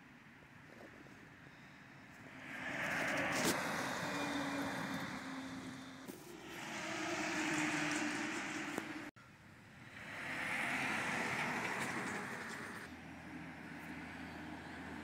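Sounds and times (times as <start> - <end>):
heavy trucks passing: 1.5 - 15.0.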